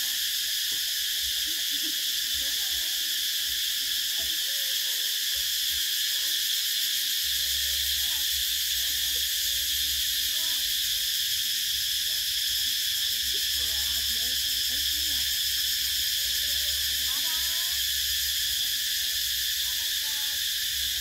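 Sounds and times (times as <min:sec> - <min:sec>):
cicadas droning: 0:00.0 - 0:21.0.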